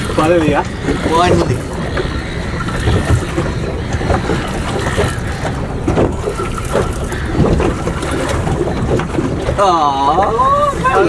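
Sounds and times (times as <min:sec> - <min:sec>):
water lapping against boat: 0:00.0 - 0:11.0
wind rumbling on microphone: 0:00.0 - 0:11.0.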